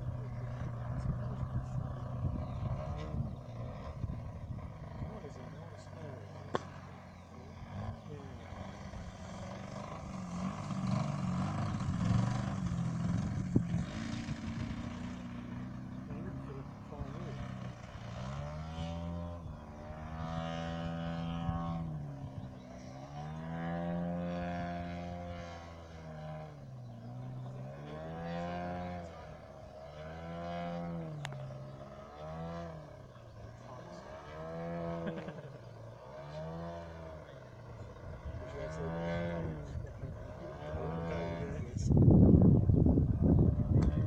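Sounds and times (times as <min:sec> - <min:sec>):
model plane engine swooping: 0:00.0 - 0:44.0.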